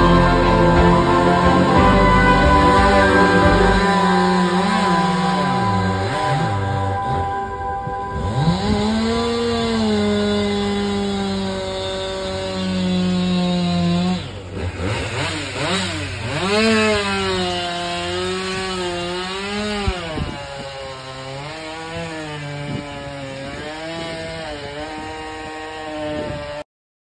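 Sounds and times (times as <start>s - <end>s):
chainsaw cutting wood: 0.0s - 26.6s.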